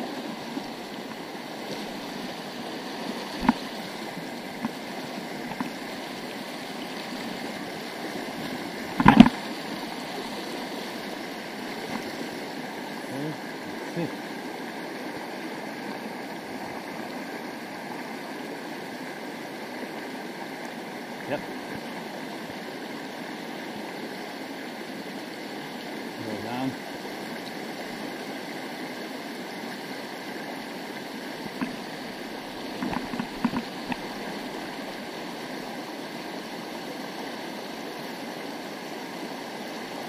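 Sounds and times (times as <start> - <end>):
rocky stream rushing over stones: 0.0 - 40.0.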